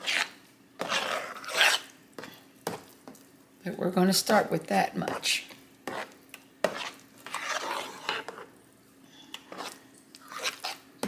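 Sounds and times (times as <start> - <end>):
utensil stirring wet mixture: 0.0 - 3.3, 4.2 - 8.6, 9.3 - 11.0.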